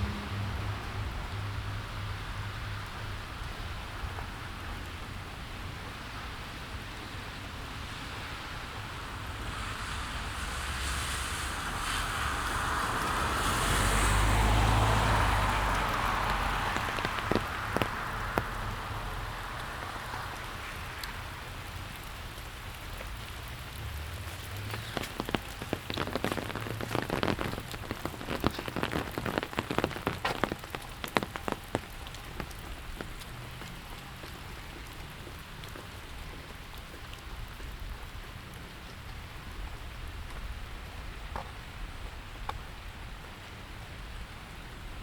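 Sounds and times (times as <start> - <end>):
soft rain patter: 0.0 - 45.0.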